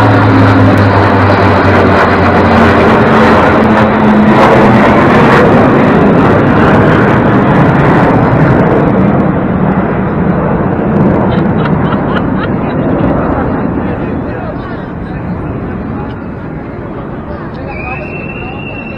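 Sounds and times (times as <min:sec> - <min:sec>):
aircraft engines passing overhead: 0:00.0 - 0:18.9.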